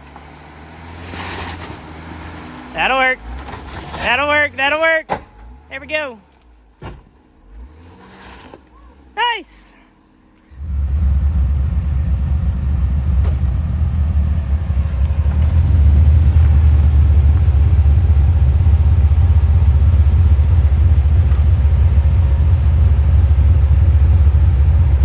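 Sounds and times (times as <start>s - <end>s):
pickup truck engine rumbling: 0.0s - 9.2s, 10.0s - 25.0s.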